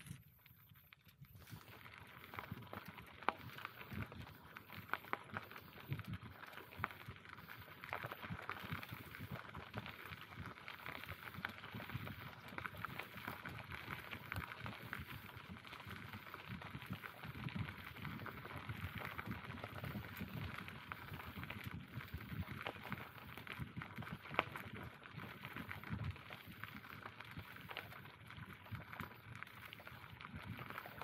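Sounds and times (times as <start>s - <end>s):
bicycle tyre noise: 0.0s - 31.0s.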